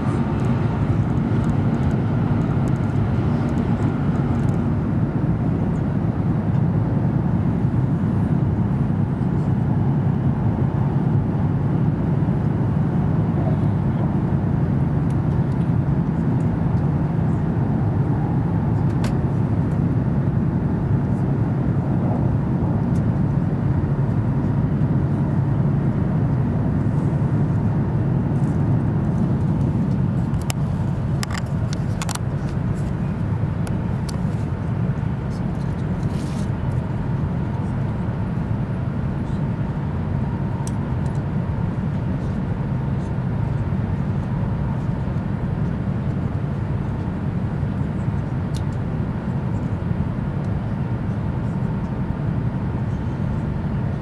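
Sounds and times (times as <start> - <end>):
train rumble inside cabin: 0.0 - 54.0.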